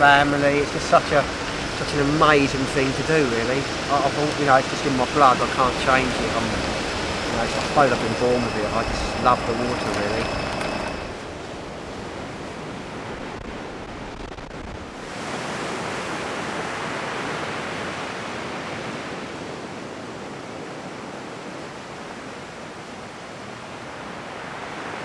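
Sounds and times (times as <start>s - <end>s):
sea surf breaking: 0.0s - 20.5s.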